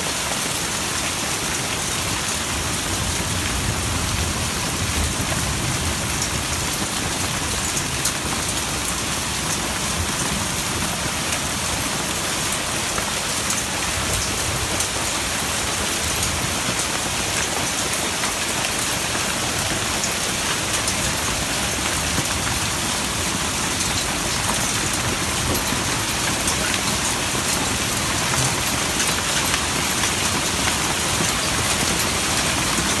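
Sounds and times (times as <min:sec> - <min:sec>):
heavy rain: 0:00.0 - 0:33.0
hailstones ticking on hard surfaces: 0:03.0 - 0:33.0.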